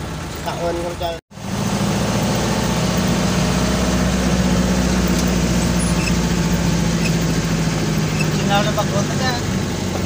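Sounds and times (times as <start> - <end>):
road noise: 0.0 - 10.0
vehicle engine running: 0.0 - 10.0.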